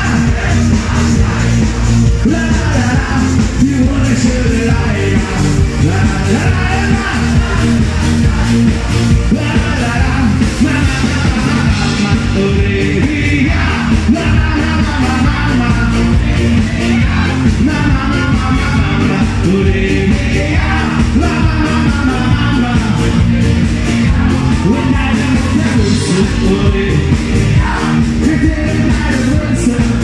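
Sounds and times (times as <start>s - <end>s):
loud rock band with singing: 0.0s - 30.0s.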